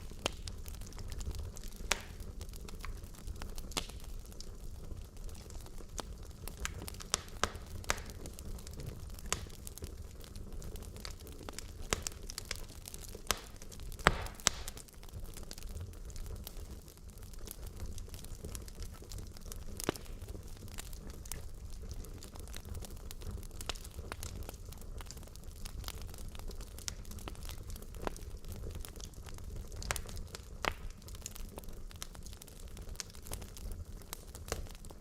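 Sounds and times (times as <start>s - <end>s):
logs crackling and popping: 0.0s - 35.0s
low rumble of flame: 0.0s - 35.0s.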